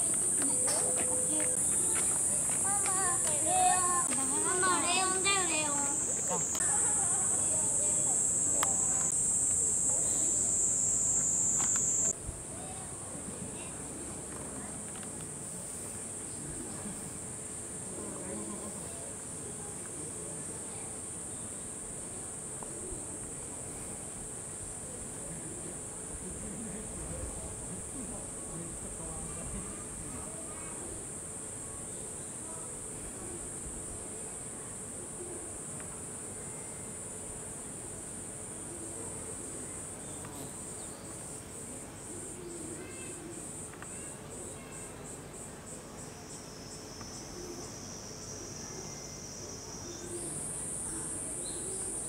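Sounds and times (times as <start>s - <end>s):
cicadas buzzing: 0.0s - 52.0s.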